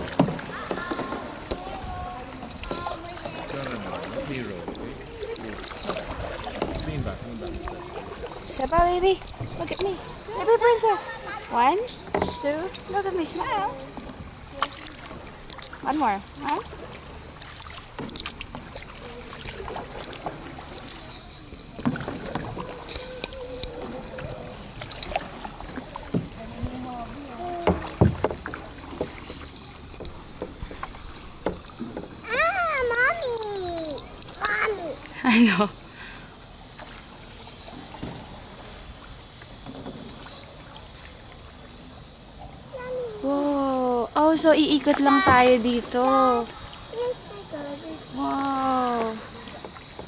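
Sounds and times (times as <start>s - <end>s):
paddles dipping and dripping: 0.0s - 50.0s
small water splashes: 0.0s - 50.0s
steady hiss: 0.0s - 50.0s
water lapping against hull: 0.0s - 50.0s.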